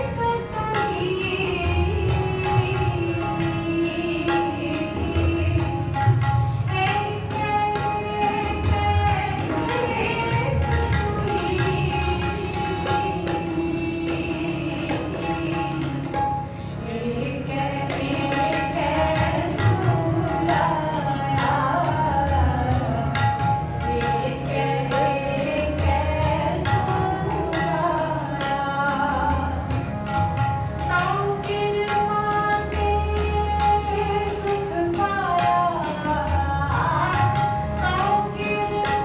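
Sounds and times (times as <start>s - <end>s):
woman singing: 0.0s - 6.0s, 6.7s - 16.2s, 16.8s - 23.2s, 23.8s - 29.8s, 30.8s - 39.0s
harmonium melody over drone: 0.0s - 39.0s
tabla drumming: 0.0s - 39.0s.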